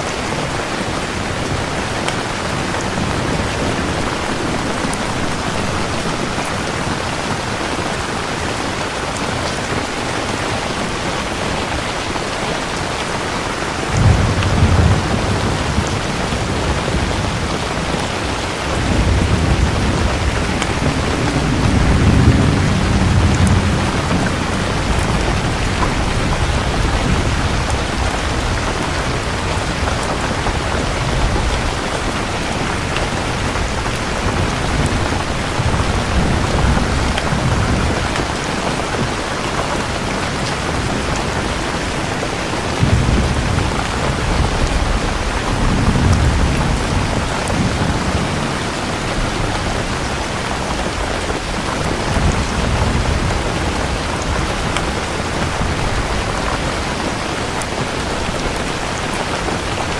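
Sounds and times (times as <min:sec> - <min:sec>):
heavy rain: 0:00.0 - 0:59.9
low thunder rumbling: 0:10.4 - 0:59.9.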